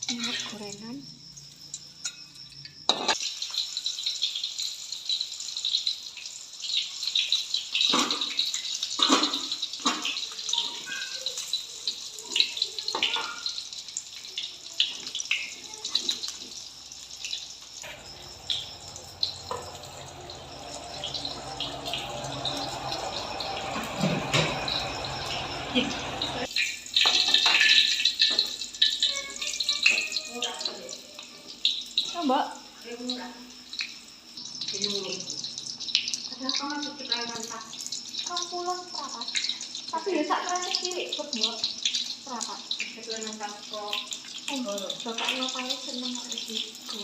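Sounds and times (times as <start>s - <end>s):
oil sizzling in a frying pan: 0.0s - 47.0s.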